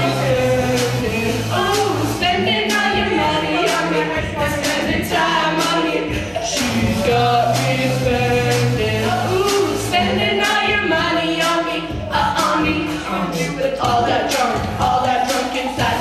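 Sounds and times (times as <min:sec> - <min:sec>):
girls singing into a microphone: 0:00.0 - 0:16.0
karaoke backing track with beat: 0:00.0 - 0:16.0.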